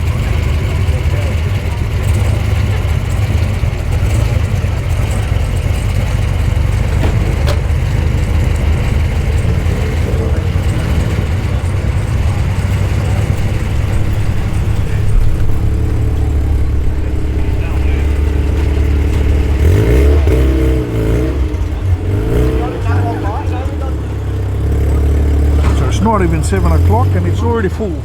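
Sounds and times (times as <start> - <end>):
car engines running low: 0.0 - 28.0.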